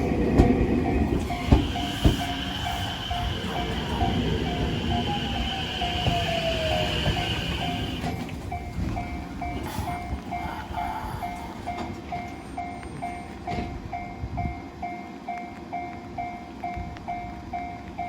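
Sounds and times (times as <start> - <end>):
level crossing warning bell: 0.0 - 18.0
train rumbling: 0.0 - 18.0.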